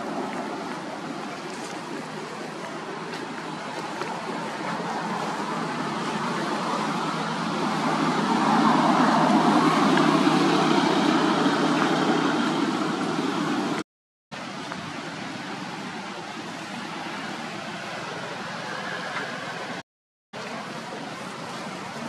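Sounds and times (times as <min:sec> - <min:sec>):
steady rushing noise: 0:00.0 - 0:19.8.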